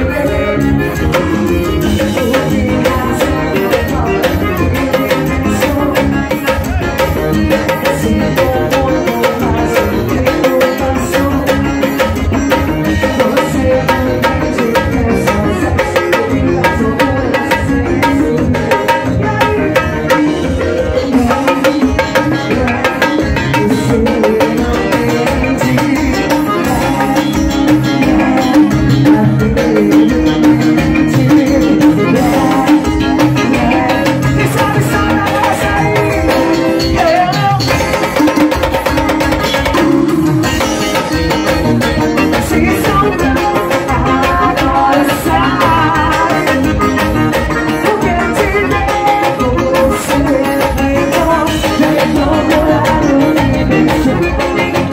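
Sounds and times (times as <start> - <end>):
bass: 0.0 - 54.9
electric guitar: 0.0 - 54.9
keyboard: 0.0 - 54.9.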